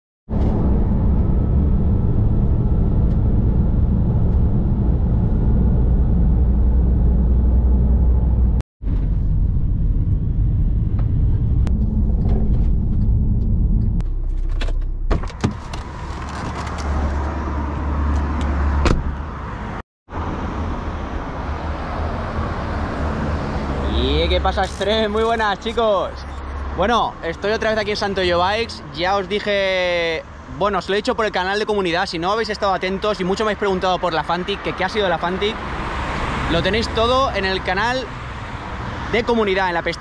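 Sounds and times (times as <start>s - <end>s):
outdoor noise: 0.3s - 40.0s
road and engine rumble in van: 0.3s - 40.0s.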